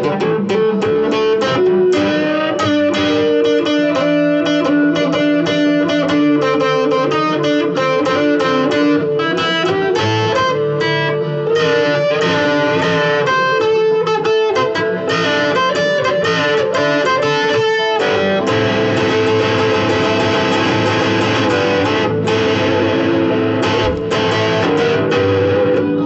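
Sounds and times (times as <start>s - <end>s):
electric guitar through amplifier: 0.0s - 26.0s.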